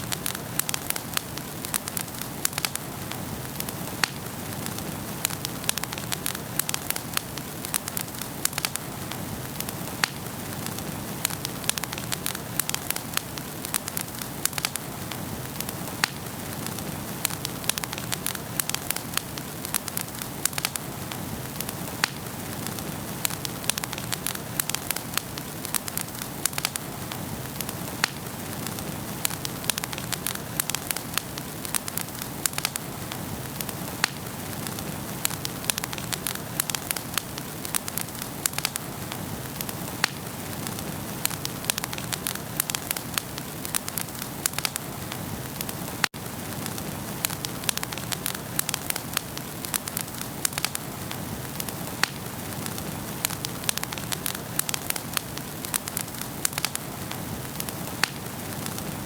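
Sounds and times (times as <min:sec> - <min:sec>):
hiss of flames: 0:00.0 - 0:59.0
wood fire crackling and popping: 0:00.0 - 0:59.0.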